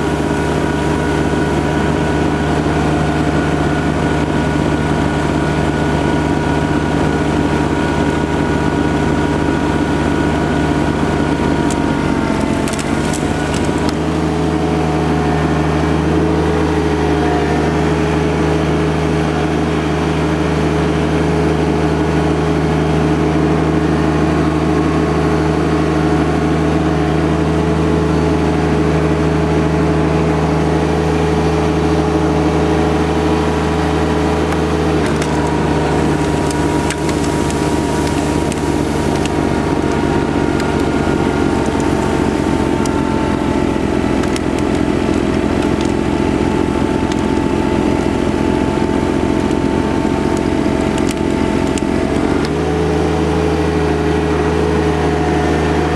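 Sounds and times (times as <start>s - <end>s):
diesel tractor engine running: 0.0s - 55.9s
snowblower whine: 0.0s - 55.9s.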